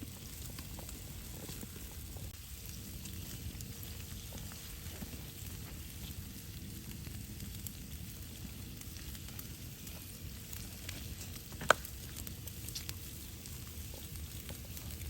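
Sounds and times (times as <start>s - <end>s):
bacon sizzling: 0.0s - 15.0s.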